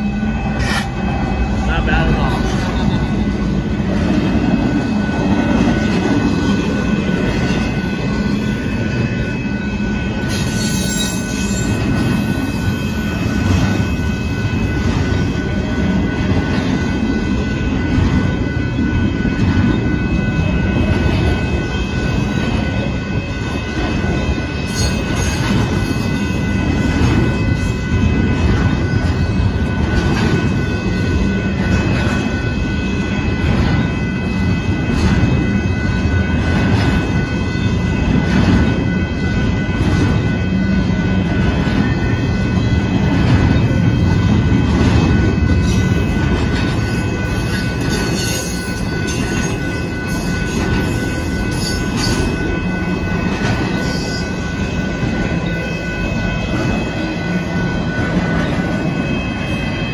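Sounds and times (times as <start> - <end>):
high-pitched whine: 0.0 - 59.9
train wheels rumbling on rail: 0.0 - 59.9.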